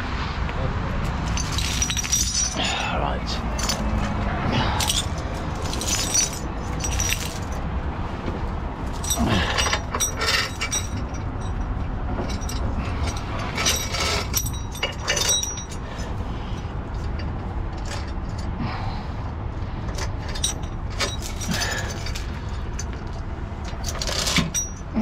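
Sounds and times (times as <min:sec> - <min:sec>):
truck engine rumbling: 0:00.0 - 0:25.0
metal clinking and jangling: 0:01.2 - 0:07.8, 0:08.8 - 0:18.6, 0:19.8 - 0:25.0.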